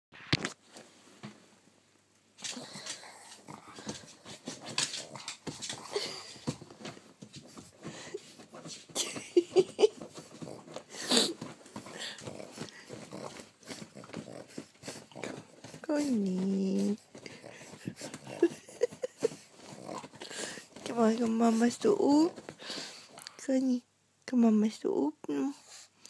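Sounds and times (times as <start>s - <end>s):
dog vocal and breathing noises: 2.4s - 23.4s, 25.4s - 26.0s.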